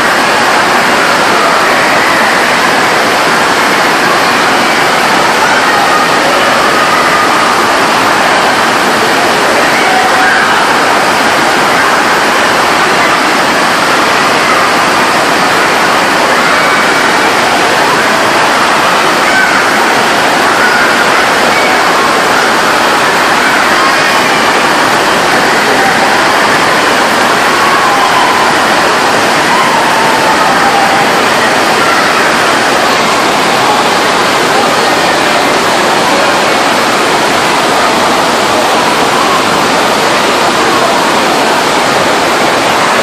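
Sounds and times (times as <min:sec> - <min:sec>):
faint voices: 0:00.0 - 0:43.0
fast-flowing water rushing: 0:00.0 - 0:43.0.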